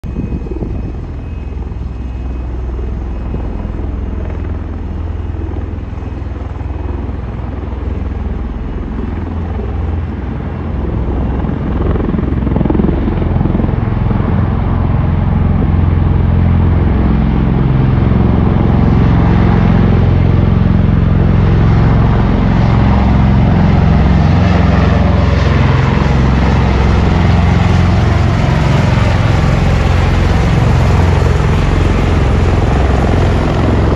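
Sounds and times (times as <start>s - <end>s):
helicopter rotors: 0.0s - 33.9s.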